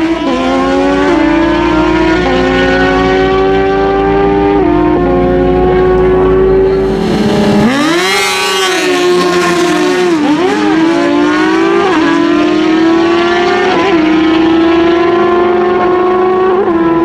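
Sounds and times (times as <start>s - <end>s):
motorcycle engines revving high: 0.0s - 17.0s.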